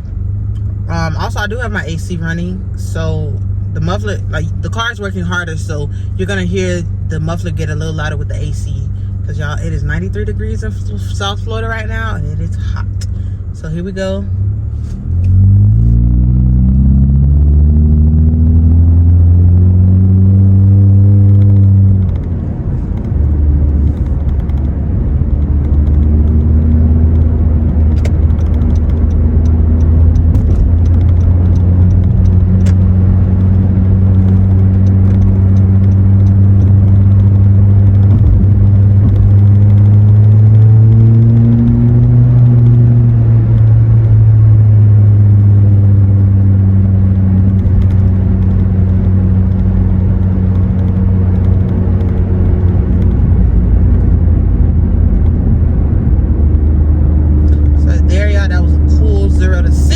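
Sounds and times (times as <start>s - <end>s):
car exhaust accelerating: 0.0s - 59.9s.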